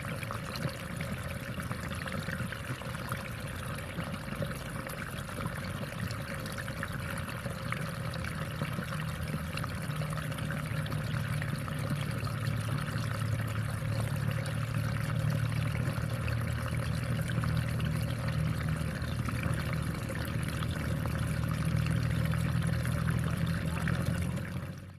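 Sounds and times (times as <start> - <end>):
water pouring and trickling: 0.0 - 24.9.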